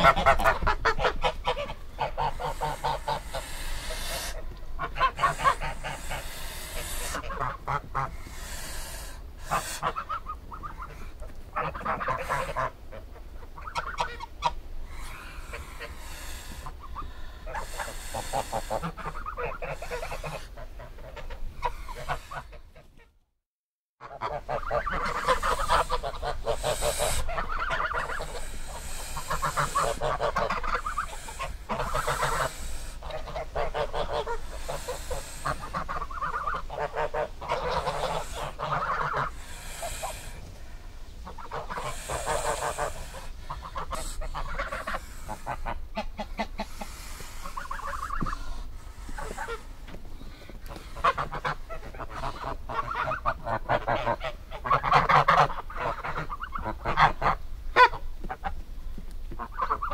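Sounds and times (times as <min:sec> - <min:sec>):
geese honking: 0:00.0 - 0:23.1, 0:24.0 - 0:58.5, 0:59.4 - 0:59.9.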